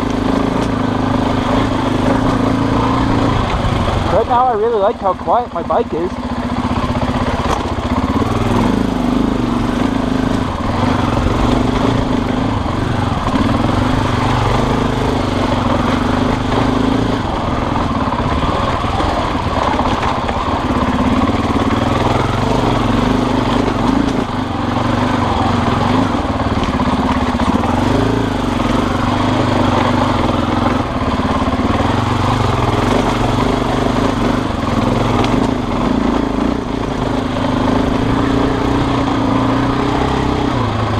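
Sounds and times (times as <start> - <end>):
motorbike engine running: 0.0 - 40.9.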